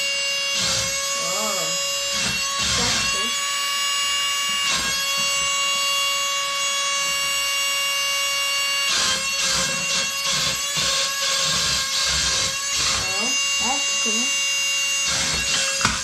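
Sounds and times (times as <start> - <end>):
suction fan whining: 0.0 - 16.0.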